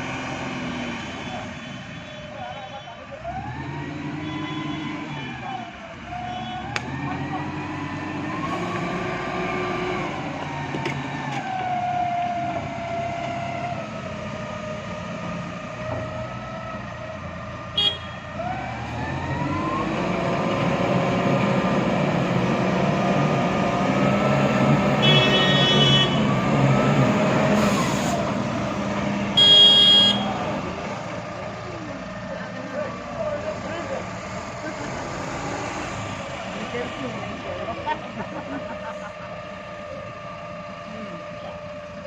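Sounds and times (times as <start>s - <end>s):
diesel engine revving under load: 0.0s - 2.0s, 3.1s - 42.0s.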